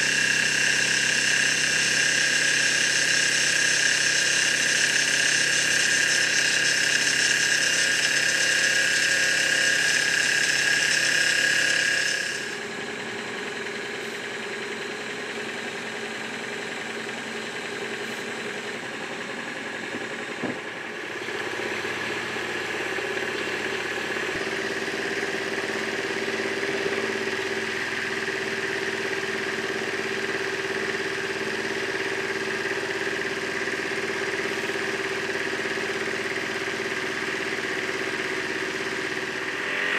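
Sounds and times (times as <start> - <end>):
model steam engines whirring: 0.0 - 39.9.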